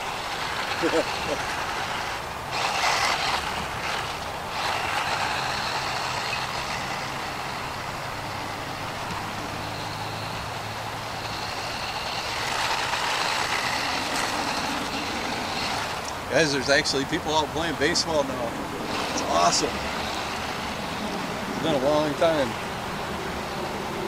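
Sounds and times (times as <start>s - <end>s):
toy truck motor whining: 0.0s - 22.6s
tyres scrubbing over dirt: 0.0s - 22.6s.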